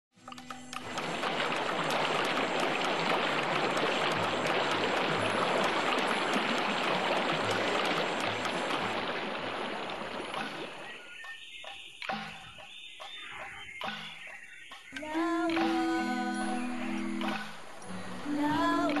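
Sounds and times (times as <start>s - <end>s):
running water: 0.2s - 19.0s.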